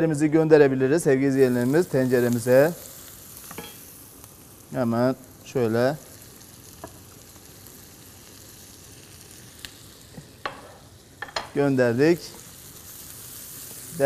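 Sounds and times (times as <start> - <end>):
vegetables sizzling in pan: 1.2 - 14.0.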